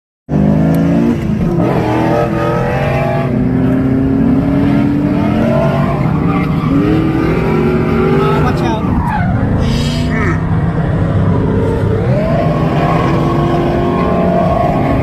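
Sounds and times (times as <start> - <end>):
car engine revving hard: 0.3 - 9.6, 10.4 - 15.0.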